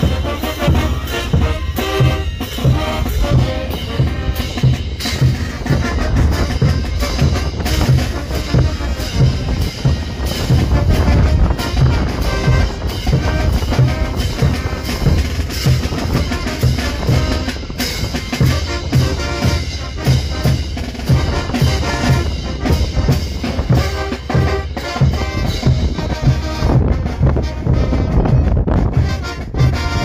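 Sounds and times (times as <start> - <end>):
brass horns: 0.0 - 30.0
snare drum: 0.0 - 30.0.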